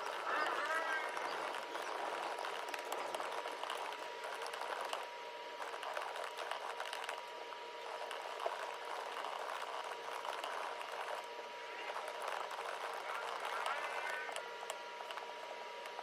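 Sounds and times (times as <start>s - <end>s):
rapid typing on keyboard: 0.0s - 16.0s.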